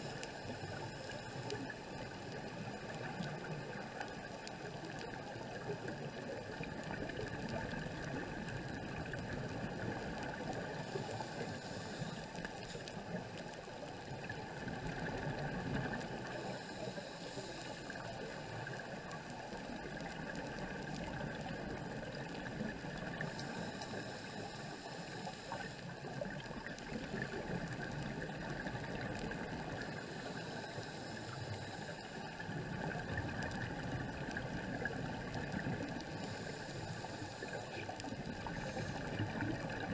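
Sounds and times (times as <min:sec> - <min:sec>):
muffled underwater rush: 0:00.0 - 0:39.9.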